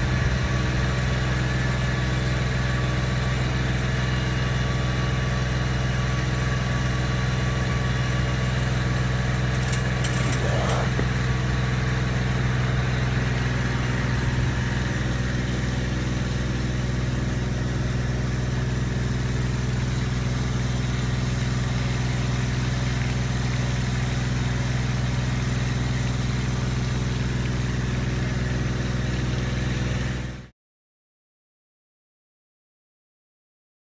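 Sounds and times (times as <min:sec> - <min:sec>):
small pump engine running: 0:00.0 - 0:30.5.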